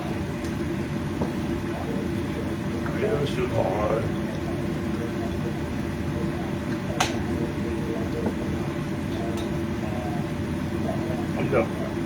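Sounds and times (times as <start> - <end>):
stove hum and hiss: 0.0 - 12.0.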